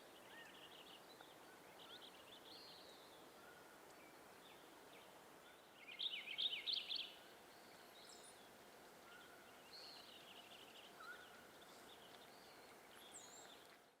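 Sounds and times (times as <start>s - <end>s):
faint ambient hiss: 0.0s - 14.0s
songbirds chirping: 0.0s - 14.0s.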